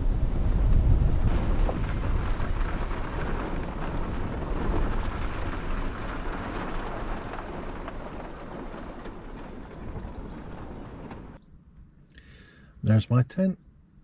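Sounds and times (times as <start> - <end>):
wind on microphone: 0.0 - 11.4
car engine and tyres rumbling: 0.0 - 12.1.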